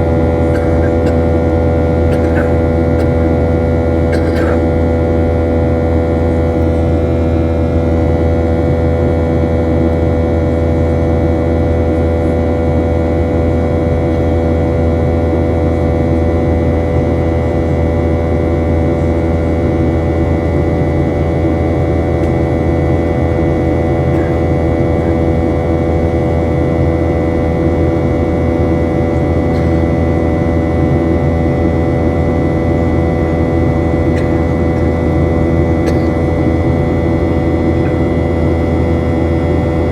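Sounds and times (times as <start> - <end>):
jet engine drone: 0.0 - 39.9.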